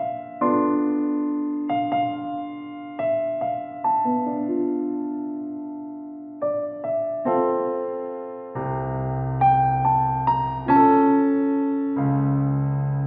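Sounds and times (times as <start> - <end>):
gentle electric piano melody: 0.0 - 13.0.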